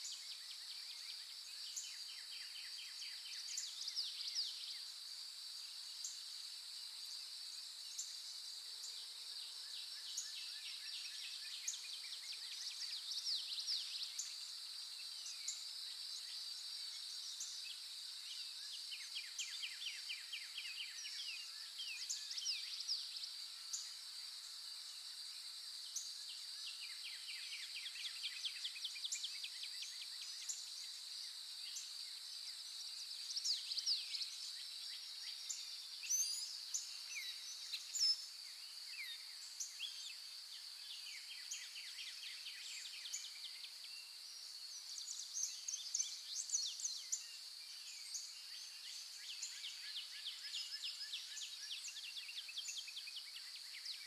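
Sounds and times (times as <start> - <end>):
high insect chorus: 0.0 - 54.0.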